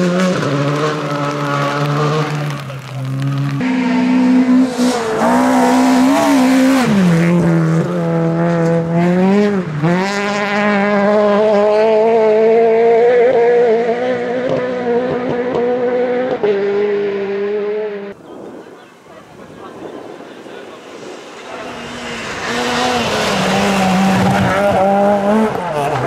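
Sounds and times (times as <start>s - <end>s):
rally car engine at high revs: 0.0s - 18.2s, 20.1s - 26.0s.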